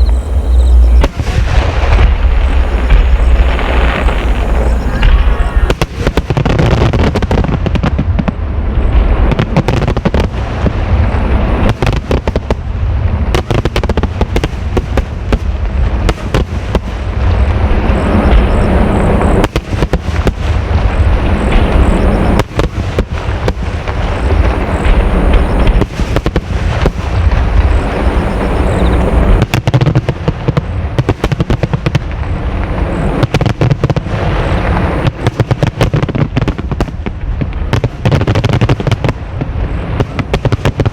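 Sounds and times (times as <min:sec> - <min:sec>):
heavy low rumble: 0:00.0 - 0:31.1, 0:31.7 - 0:40.9
fireworks bursting: 0:00.0 - 0:40.9
fireworks crackling: 0:00.0 - 0:40.9.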